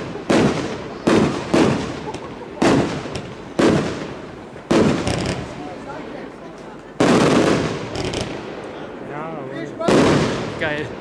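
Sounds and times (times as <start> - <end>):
fireworks bangs echoing: 0.0 - 6.3, 6.9 - 9.0, 9.7 - 11.0.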